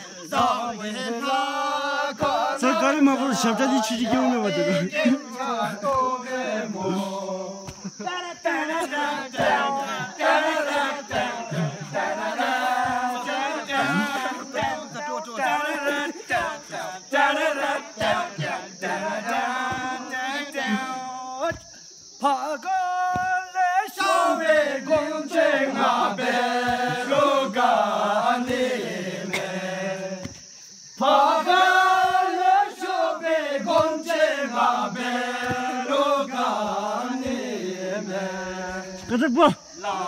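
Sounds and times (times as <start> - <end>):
men singing together: 0.0 - 40.0.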